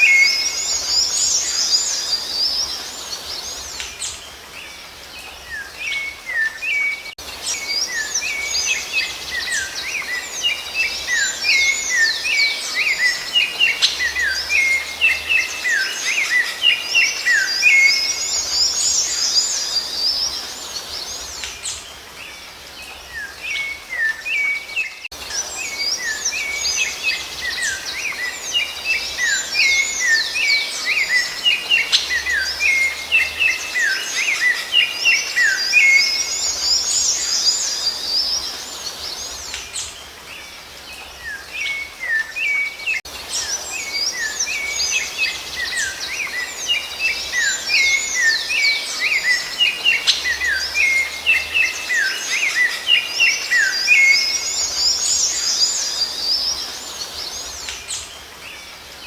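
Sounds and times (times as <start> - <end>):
thrush singing whistled notes: 0.0 - 58.8.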